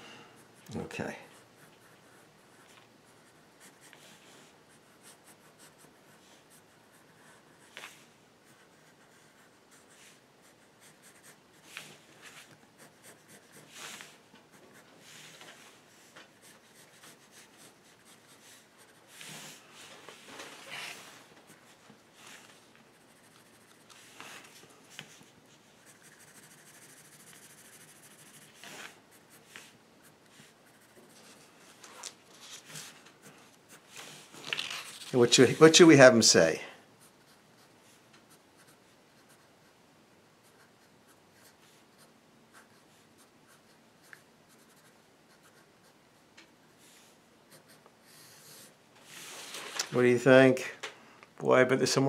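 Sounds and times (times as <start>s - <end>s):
pencil scratching on paper: 0.4s - 31.5s, 37.0s - 39.8s, 40.4s - 46.0s, 46.8s - 49.3s.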